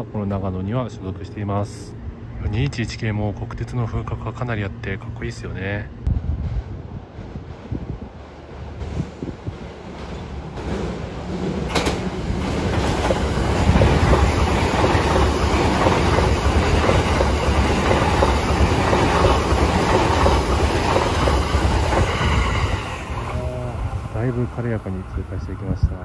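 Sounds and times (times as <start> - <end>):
train running through station: 0.0 - 26.0.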